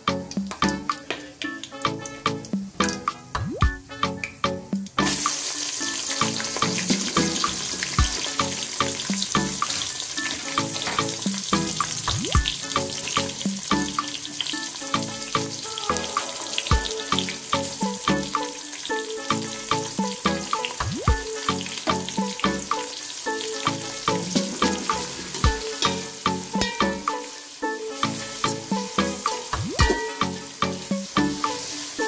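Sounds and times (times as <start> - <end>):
instrumental background music: 0.0 - 32.0
food sizzling in hot oil: 0.1 - 32.0.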